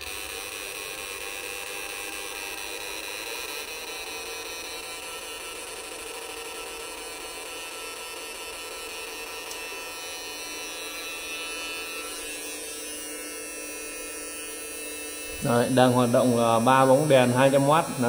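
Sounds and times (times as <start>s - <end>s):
inverter electrical hum: 0.0s - 18.0s.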